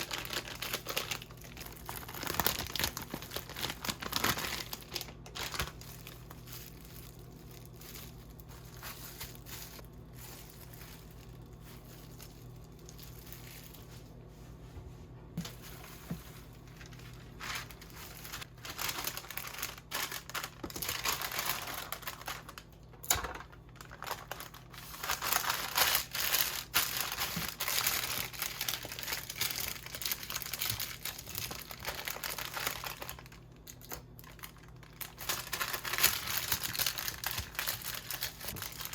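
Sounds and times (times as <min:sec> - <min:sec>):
packaging crinkling: 0:00.0 - 0:14.2, 0:15.4 - 0:38.9
faint low hum: 0:00.0 - 0:38.9.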